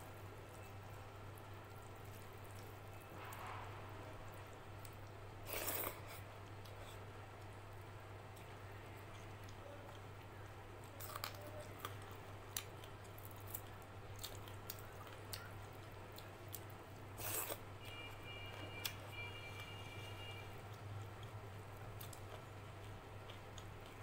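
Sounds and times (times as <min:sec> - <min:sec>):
steady low hum: 0:00.0 - 0:24.0
close-up chewing: 0:01.3 - 0:03.1, 0:04.2 - 0:19.8, 0:20.7 - 0:24.0.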